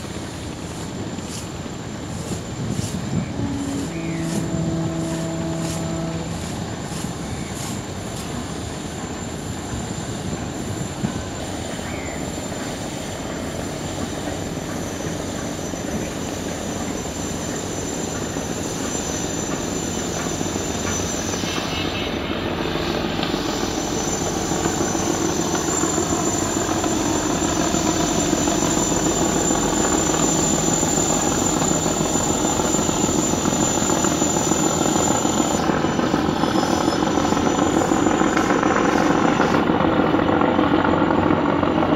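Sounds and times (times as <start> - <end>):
boat engines droning: 0.0 - 41.9.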